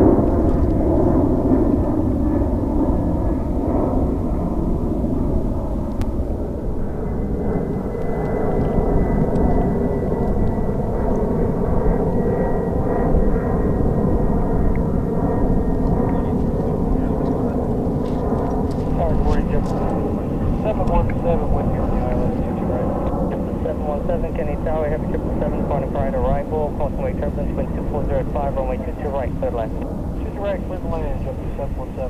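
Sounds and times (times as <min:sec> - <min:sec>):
jet engines running: 0:00.0 - 0:32.0.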